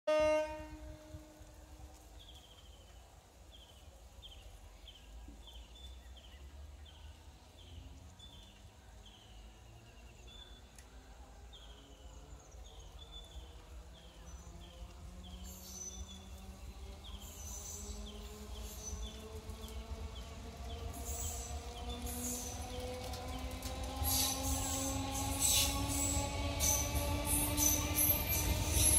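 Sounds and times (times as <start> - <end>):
approaching electric train: 0.1 - 28.9.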